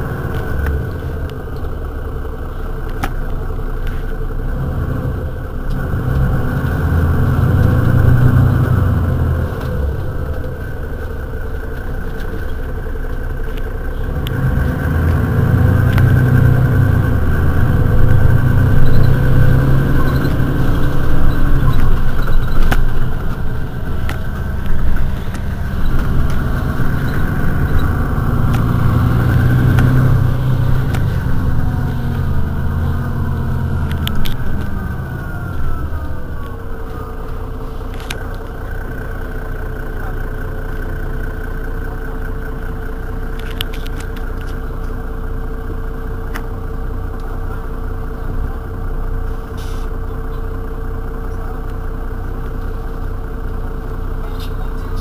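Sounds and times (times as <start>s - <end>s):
bus engine running: 0.0s - 55.0s
constant engine whine: 0.0s - 55.0s.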